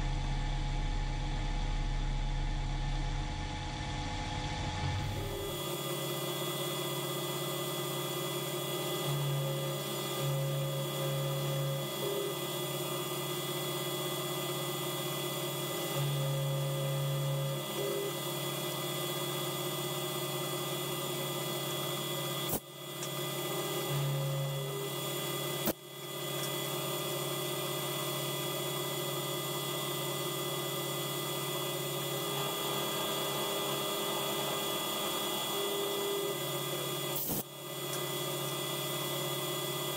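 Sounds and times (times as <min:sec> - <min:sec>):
mill drill motor hum: 0:03.6 - 0:39.9.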